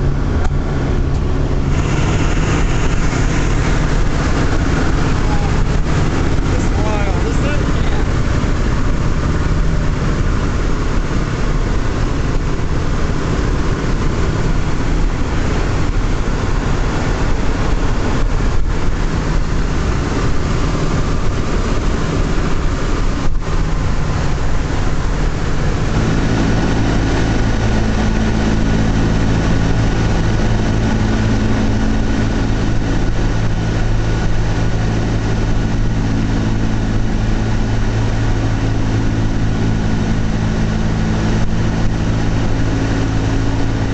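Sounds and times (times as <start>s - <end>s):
radial aircraft engines droning: 0.0s - 43.9s.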